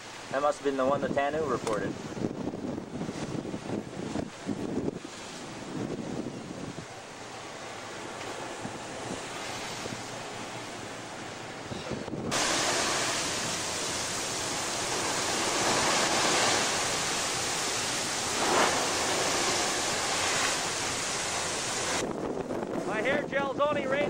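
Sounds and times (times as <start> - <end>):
wind and waves on rough sea: 0.0 - 24.0.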